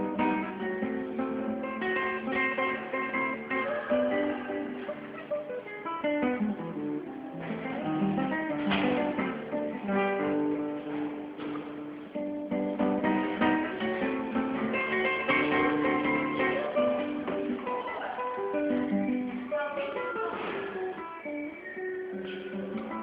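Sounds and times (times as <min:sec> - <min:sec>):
plucked string instrumental melody: 0:00.0 - 0:23.0.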